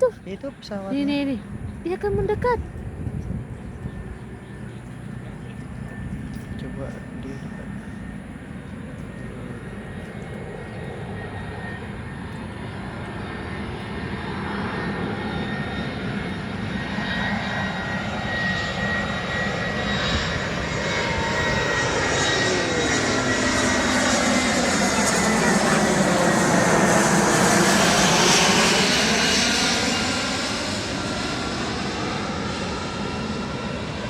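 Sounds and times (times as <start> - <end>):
jet airliner approaching: 0.0 - 34.0
jet engine whine falling in pitch: 0.0 - 34.0.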